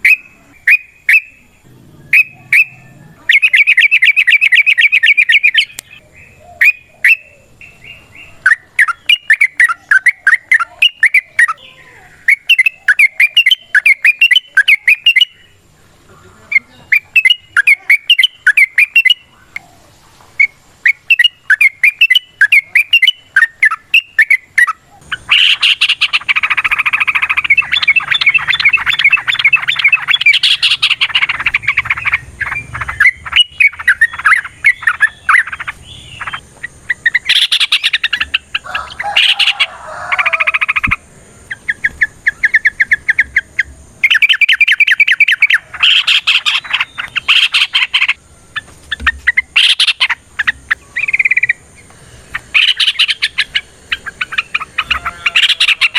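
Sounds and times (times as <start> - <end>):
bulbul song chattering: 0.0 - 55.9.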